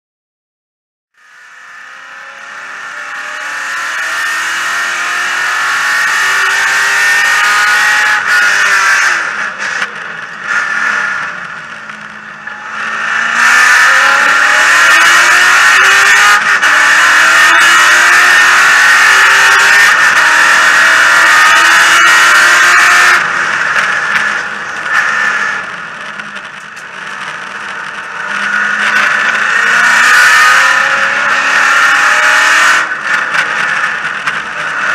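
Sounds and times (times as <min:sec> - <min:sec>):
race car engine revving: 0:01.2 - 0:34.9.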